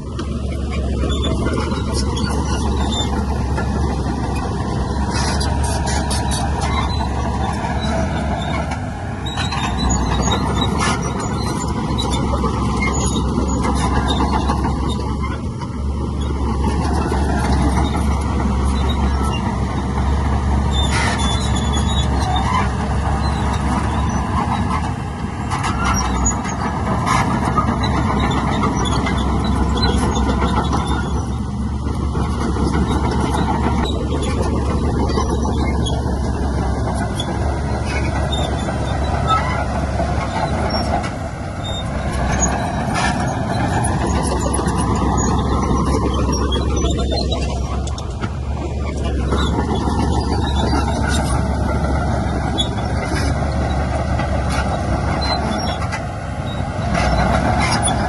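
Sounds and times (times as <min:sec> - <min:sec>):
diesel engine rumble: 0:00.0 - 0:58.0.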